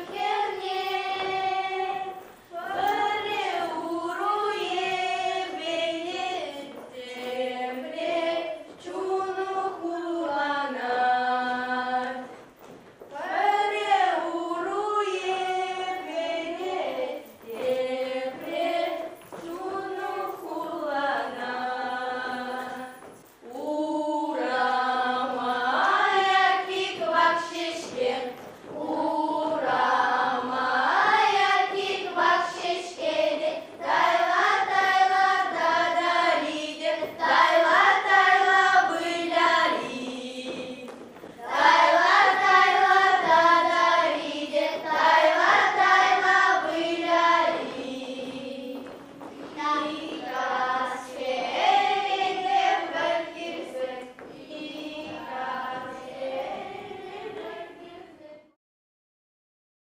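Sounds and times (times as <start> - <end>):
girls singing a folk song: 0.0 - 58.6.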